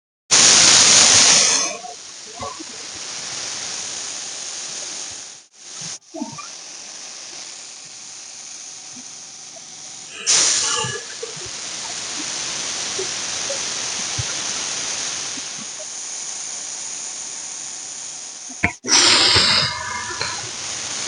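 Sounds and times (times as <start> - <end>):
snake hissing: 0.3 - 21.0.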